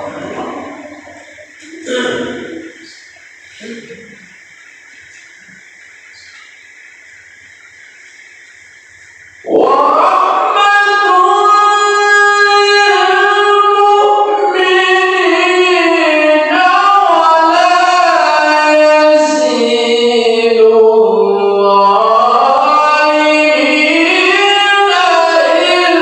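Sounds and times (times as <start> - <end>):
person reciting melodically: 0.0 - 6.8, 9.1 - 26.0.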